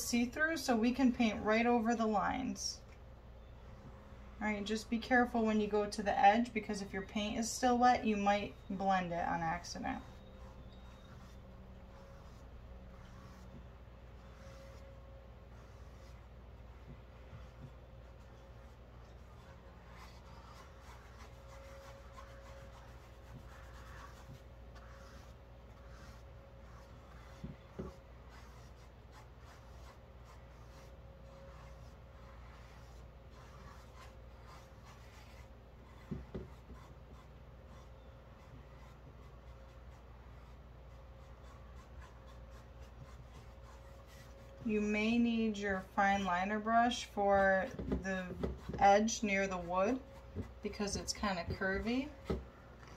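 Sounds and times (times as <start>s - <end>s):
faint steady hum: 0.0s - 52.9s
paintbrushes scratching on canvas: 7.2s - 52.9s.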